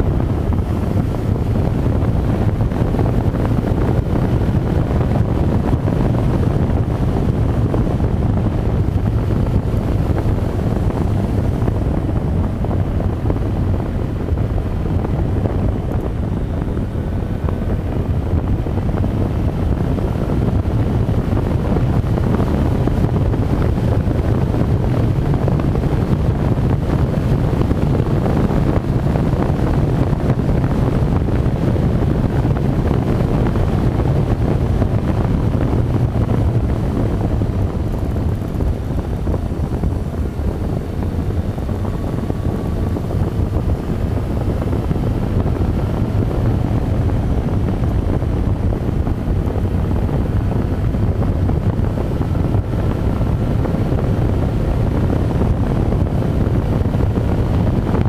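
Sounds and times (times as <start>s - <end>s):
motorcycle engine drone: 0.0s - 58.0s
wind rushing over microphone: 0.0s - 58.0s.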